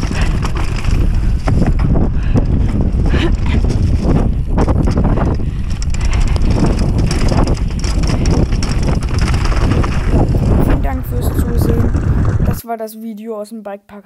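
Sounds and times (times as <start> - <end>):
bike knocks and rattles: 0.0 - 12.6
tyre rumble: 0.0 - 12.6
wind buffeting microphone: 0.0 - 12.6.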